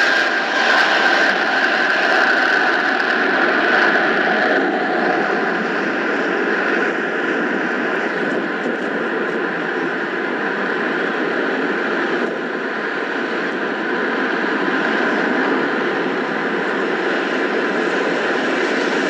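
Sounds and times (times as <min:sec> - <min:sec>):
faint engine whine: 0:00.0 - 0:19.0
jet engines roaring: 0:00.0 - 0:19.0.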